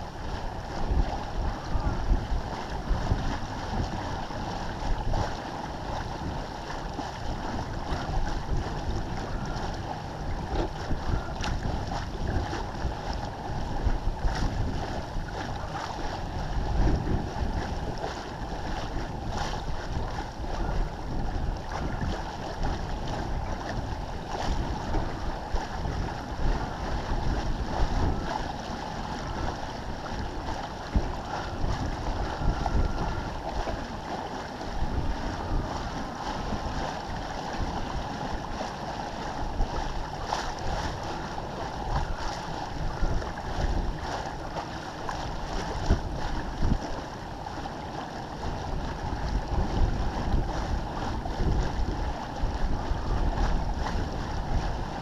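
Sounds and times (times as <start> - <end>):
water rushing along hull: 0.0 - 55.0
wind buffeting microphone: 0.0 - 55.0.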